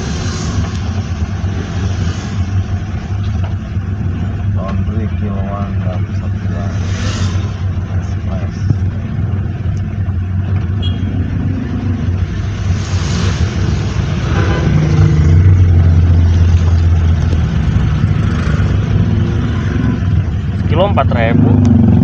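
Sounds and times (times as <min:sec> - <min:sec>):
road noise hiss: 0:00.0 - 0:21.9
vehicle engine rumble: 0:00.0 - 0:22.0.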